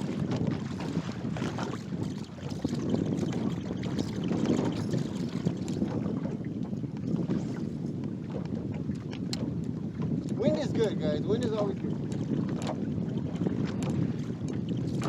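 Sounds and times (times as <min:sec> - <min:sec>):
water lapping against boat hull: 0:00.0 - 0:15.0
wind buffeting microphone: 0:00.0 - 0:15.0.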